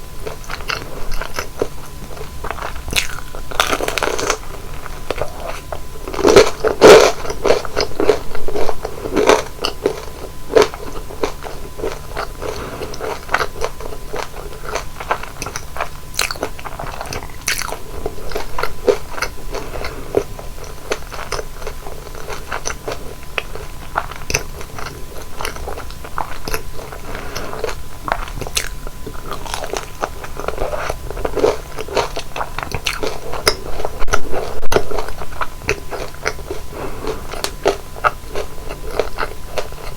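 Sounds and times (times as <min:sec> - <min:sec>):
crackly chewing: 0:00.0 - 0:39.9
crunchy biting: 0:00.2 - 0:39.9.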